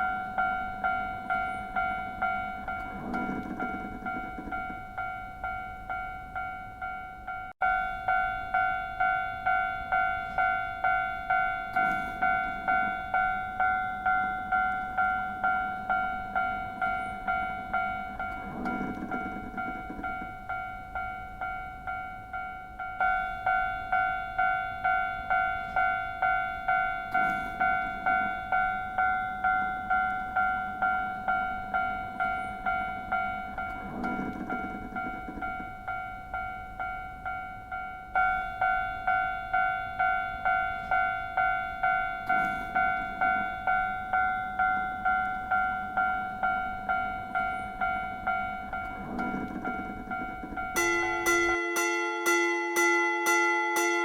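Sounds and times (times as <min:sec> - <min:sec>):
level-crossing warning bell ringing: 0:00.0 - 0:54.0.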